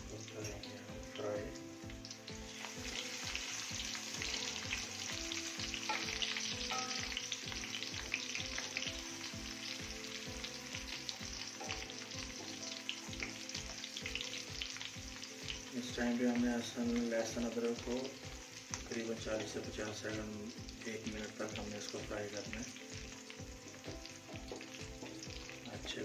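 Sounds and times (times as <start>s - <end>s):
food sizzling in hot fat: 0.0s - 26.0s.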